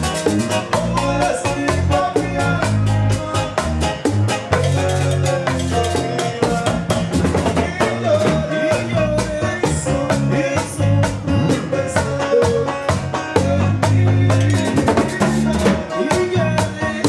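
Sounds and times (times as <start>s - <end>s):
busy drum beat: 0.0s - 17.0s
live band playing latin music: 0.0s - 17.0s.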